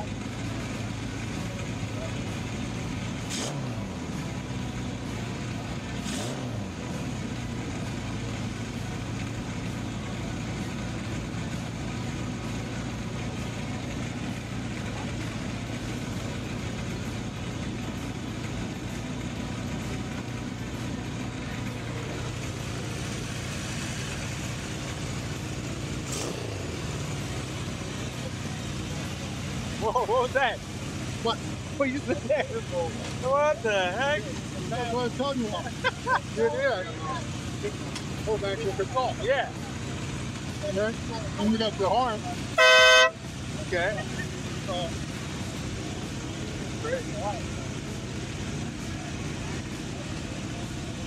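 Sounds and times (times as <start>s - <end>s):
motorcycle engine idling: 0.0s - 6.0s, 6.7s - 51.0s.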